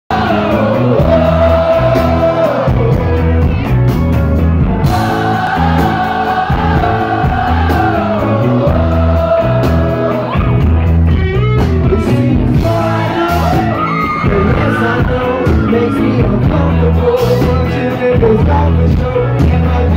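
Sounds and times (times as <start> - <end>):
rock band playing loudly: 0.1 - 19.9.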